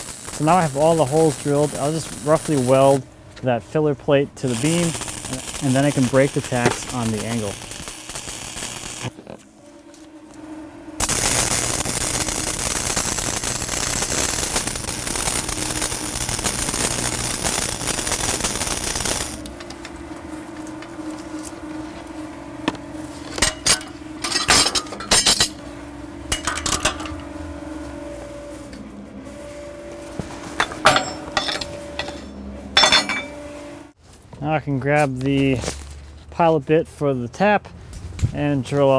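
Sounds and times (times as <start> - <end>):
welding arc crackling and hissing: 0.0 - 10.4, 11.0 - 34.0
steady hum: 0.0 - 34.0.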